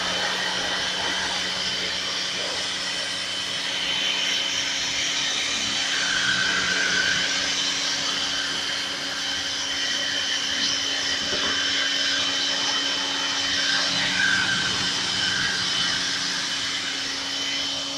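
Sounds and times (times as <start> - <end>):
motor-driven machine whirring: 0.0 - 17.9.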